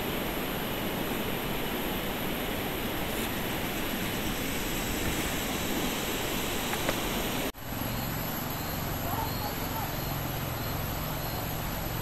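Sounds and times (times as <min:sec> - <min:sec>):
quiet outdoor background: 0:00.0 - 0:12.0
river water rushing: 0:00.0 - 0:12.0.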